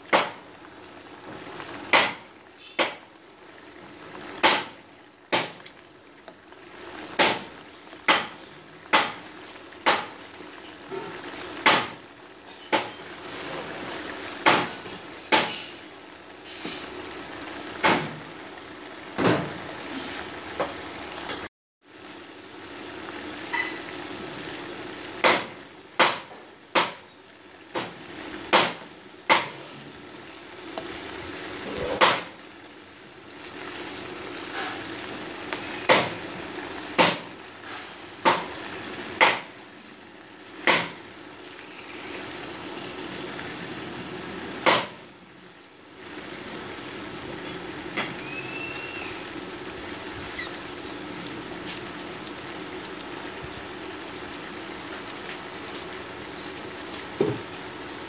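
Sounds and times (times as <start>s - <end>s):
chicken sizzling in oil: 0.0s - 58.0s.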